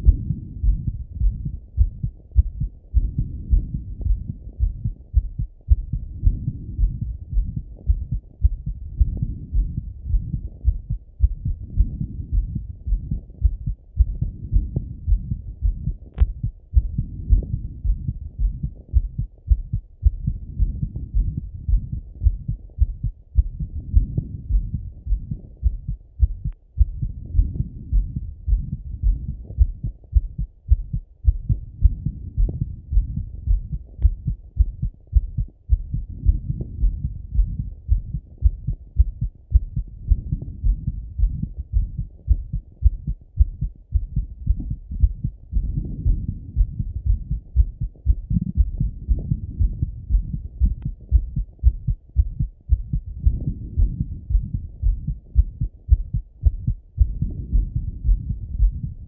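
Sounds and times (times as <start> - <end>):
heartbeat through stethoscope: 0.0 - 59.0.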